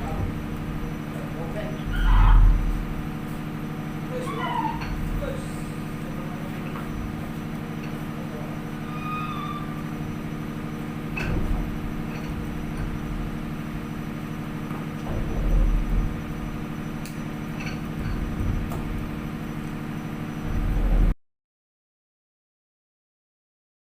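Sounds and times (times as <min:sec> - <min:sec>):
ship engine droning: 0:00.0 - 0:21.2.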